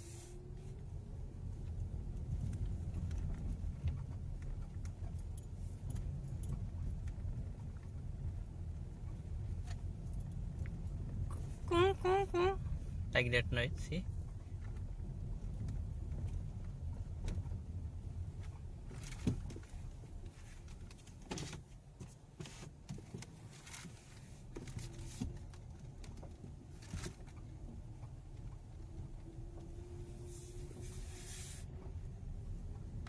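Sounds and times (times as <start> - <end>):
car driving over rough road: 0.0 - 11.8, 14.0 - 33.0.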